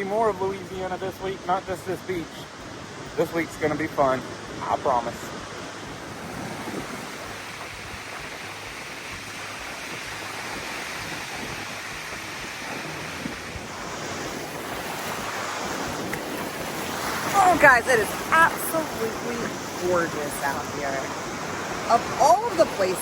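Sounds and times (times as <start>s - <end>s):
surf washing onto beach: 0.0s - 23.0s
wind on microphone: 0.0s - 23.0s.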